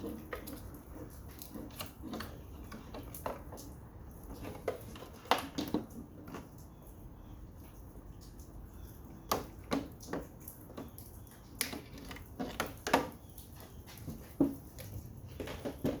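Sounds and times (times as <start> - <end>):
air conditioner parts clicking and knocking: 0.0 - 16.0.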